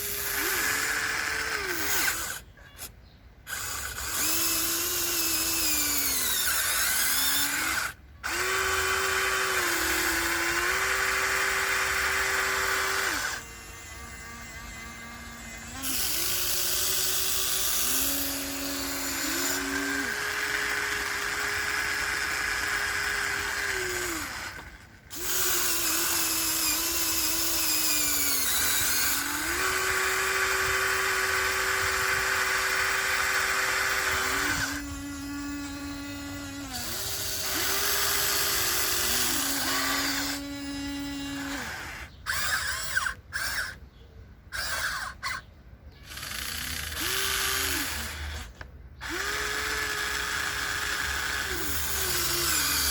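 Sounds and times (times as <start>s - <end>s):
toy excavator motors whining: 0.0s - 52.9s.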